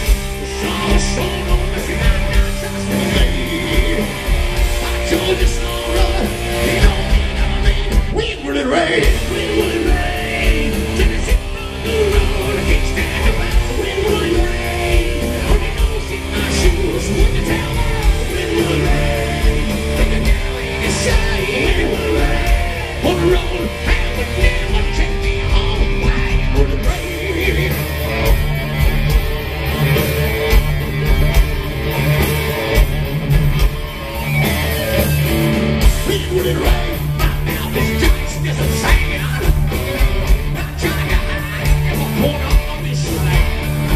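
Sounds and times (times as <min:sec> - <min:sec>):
lead vocal singing: 0:00.0 - 0:28.7, 0:35.8 - 0:43.9
hard rock band playing: 0:00.0 - 0:43.9.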